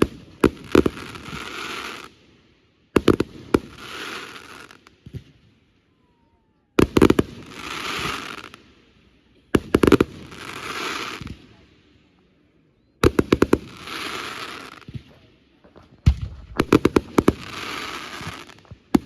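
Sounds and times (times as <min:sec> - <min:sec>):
fireworks bangs: 0:00.0 - 0:02.2, 0:02.9 - 0:08.6, 0:09.5 - 0:11.6, 0:13.0 - 0:19.0.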